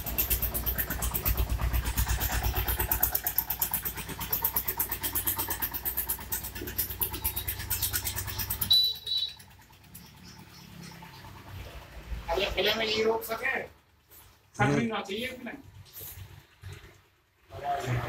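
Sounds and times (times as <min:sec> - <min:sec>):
small engine running: 0:00.0 - 0:16.8.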